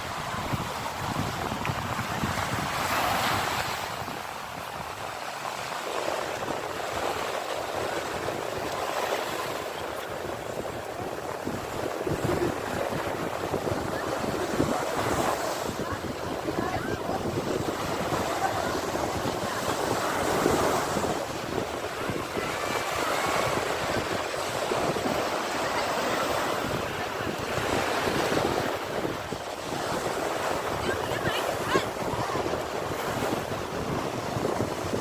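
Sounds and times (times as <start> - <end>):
sea waves breaking on shore: 0.0 - 35.0.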